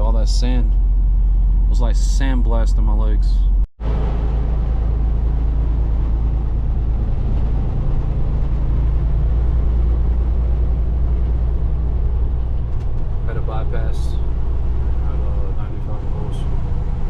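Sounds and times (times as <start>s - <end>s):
truck engine and road drone: 0.0s - 17.0s.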